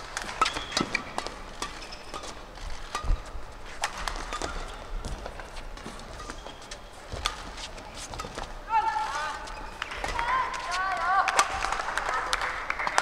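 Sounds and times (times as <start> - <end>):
shoes squeaking on court floor: 0.0 - 11.6
racket hitting shuttlecock: 0.0 - 12.6.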